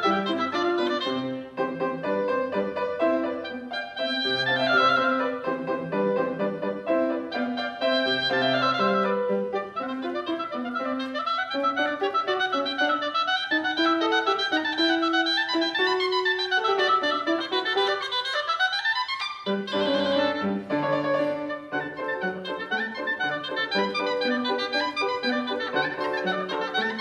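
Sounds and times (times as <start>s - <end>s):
grand piano: 0.0s - 27.0s
woodwind melody: 0.0s - 27.0s.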